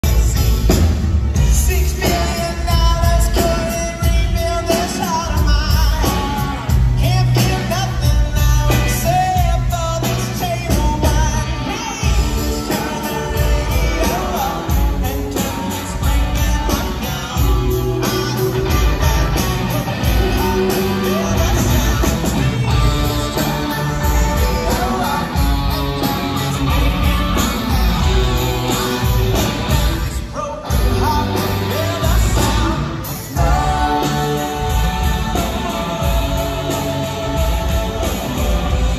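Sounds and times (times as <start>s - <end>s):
drums: 0.0s - 38.9s
electric guitar: 0.0s - 38.9s
male singer: 0.0s - 38.9s.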